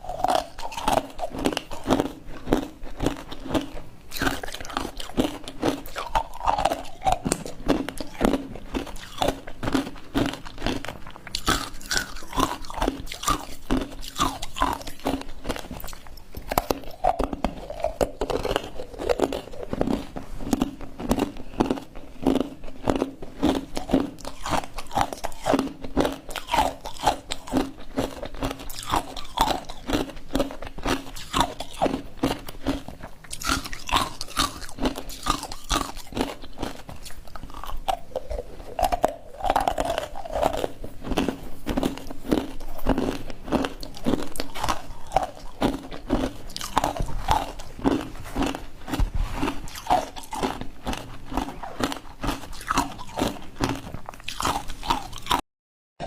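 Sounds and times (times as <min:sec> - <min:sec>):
ice crunching in mouth: 0:00.0 - 0:55.4.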